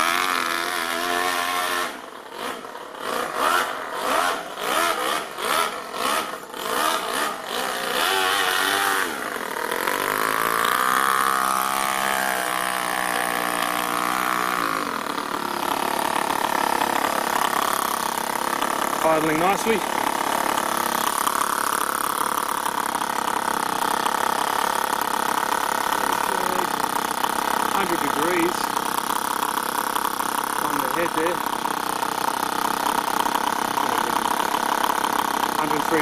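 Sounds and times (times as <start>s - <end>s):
model nitro engine revving: 0.0s - 36.0s.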